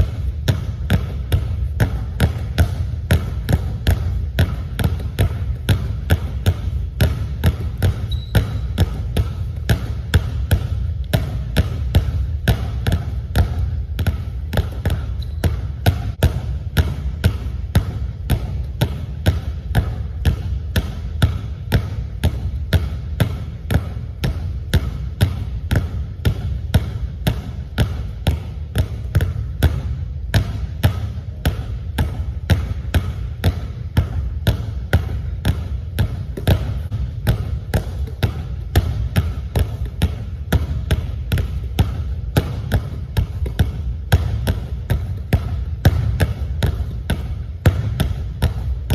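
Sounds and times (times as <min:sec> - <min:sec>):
basketballs bouncing on wooden floor: 0:00.0 - 0:48.9.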